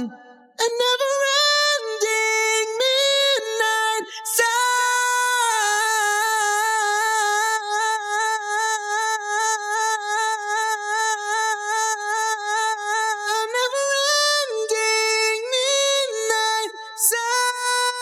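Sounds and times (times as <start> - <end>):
sung vocal holding a long note: 0.0 - 18.0.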